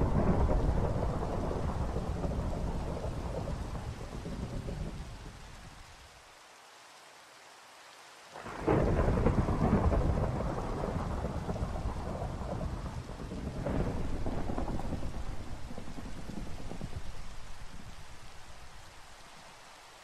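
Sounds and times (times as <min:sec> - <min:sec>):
thunder rumbling: 0:00.0 - 0:05.4, 0:08.4 - 0:19.1
faint steady rain: 0:00.0 - 0:20.0.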